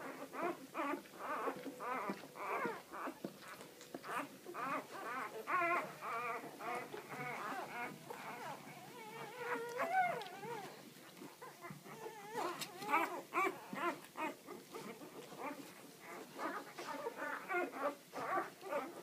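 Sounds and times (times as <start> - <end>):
puppies whimpering and squealing: 0.0 - 19.0.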